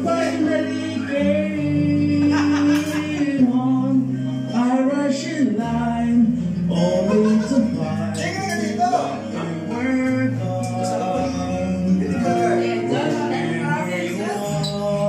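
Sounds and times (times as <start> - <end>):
karaoke backing track over speakers: 0.0 - 15.0
man singing: 0.0 - 15.0.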